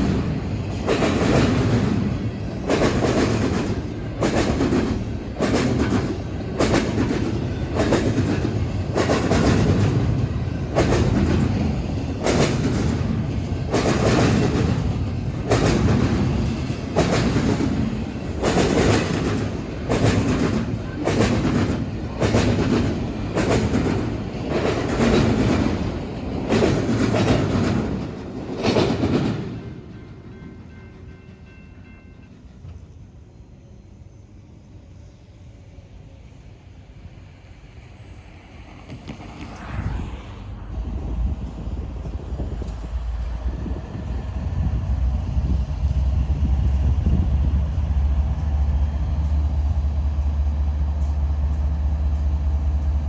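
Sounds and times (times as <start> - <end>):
train wheels clacking over crossing: 0.0 - 33.0, 37.5 - 53.0
train steady rumble: 0.0 - 53.0.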